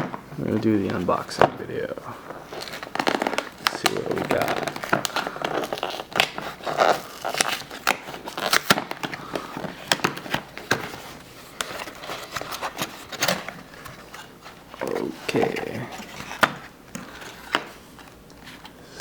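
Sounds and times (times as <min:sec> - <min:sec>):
packaging crackling and rustling: 0:00.0 - 0:19.0.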